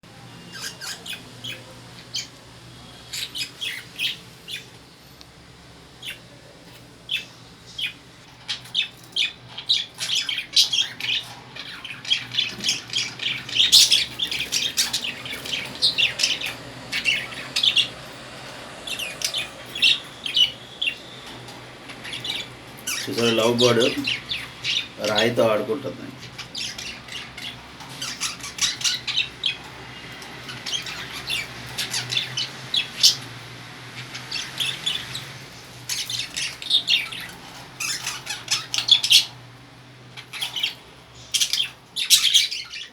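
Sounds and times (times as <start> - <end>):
lovebirds chirping and squawking: 0.3 - 5.2, 5.9 - 42.9.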